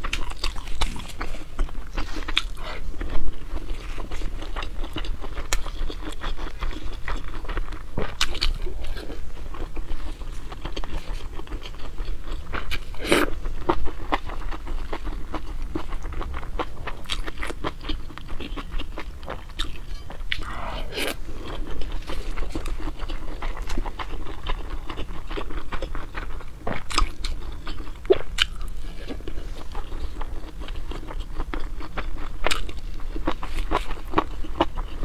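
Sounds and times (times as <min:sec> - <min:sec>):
person chewing food: 0:00.0 - 0:35.0.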